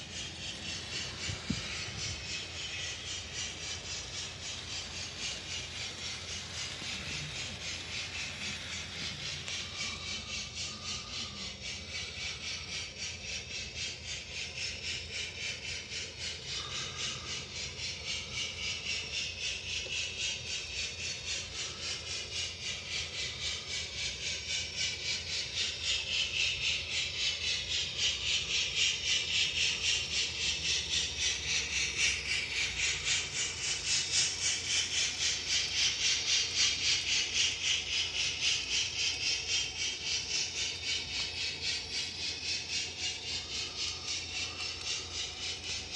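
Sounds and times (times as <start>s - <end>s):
model locomotive rhythmic hissing: 0.0s - 45.9s.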